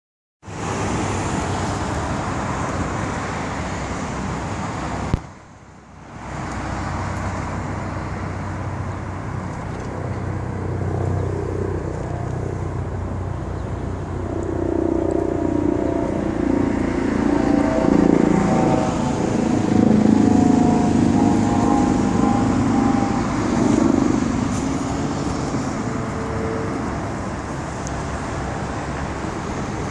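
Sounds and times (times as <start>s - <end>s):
car engine drone: 0.4s - 29.9s
road traffic noise: 0.4s - 29.9s.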